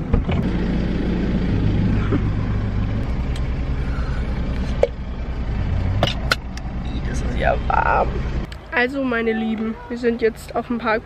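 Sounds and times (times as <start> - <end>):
engine and road rumble in car: 0.0 - 11.0.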